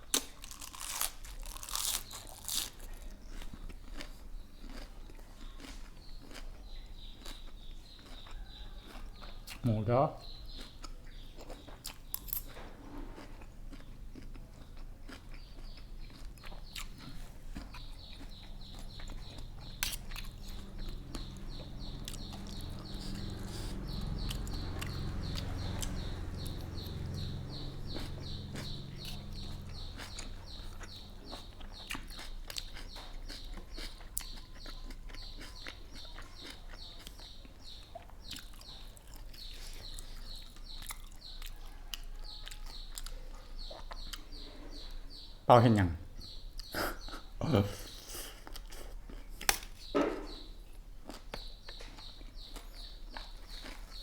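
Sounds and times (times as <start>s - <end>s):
chewing and crunching food: 0.0s - 45.4s, 46.2s - 54.0s.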